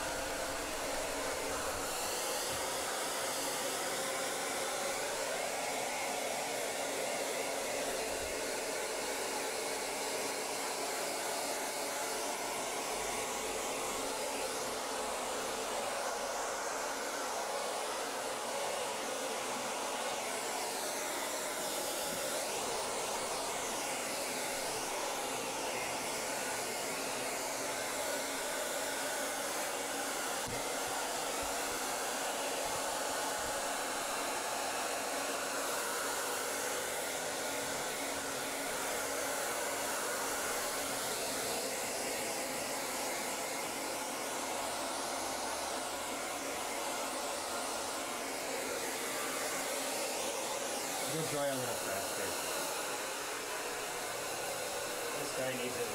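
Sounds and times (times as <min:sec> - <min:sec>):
hair dryer blowing: 0:00.0 - 0:55.9.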